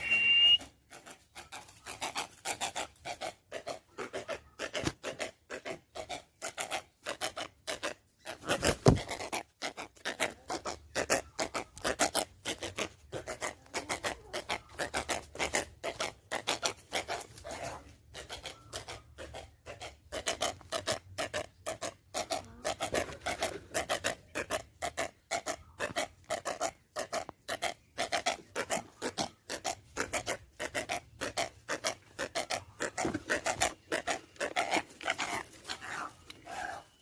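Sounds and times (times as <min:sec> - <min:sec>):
rapid rasping scrapes: 0:00.9 - 0:37.0.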